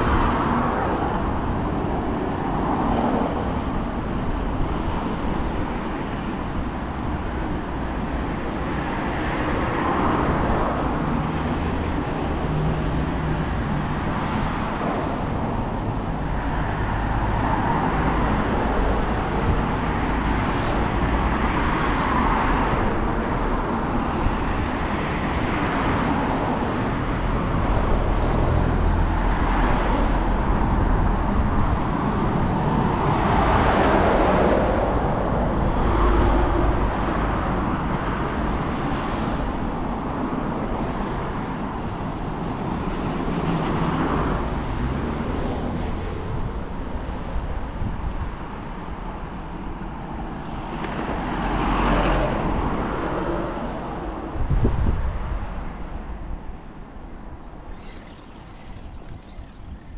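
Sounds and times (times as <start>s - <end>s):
cars passing: 0.0s - 59.9s
traffic hum and rumble: 0.0s - 59.9s.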